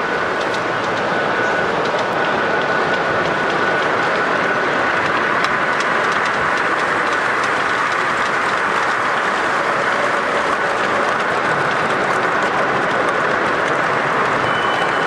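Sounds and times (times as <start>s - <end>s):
model train running: 0.0s - 15.0s
wheels clicking over rail joints: 0.0s - 15.0s.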